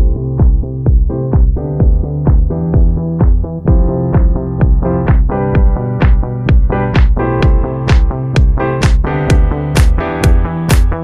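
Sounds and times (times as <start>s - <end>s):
electronic dance music: 0.0s - 11.0s
kick drum beat: 0.0s - 11.0s
sustained synthesizer chords: 0.0s - 11.0s.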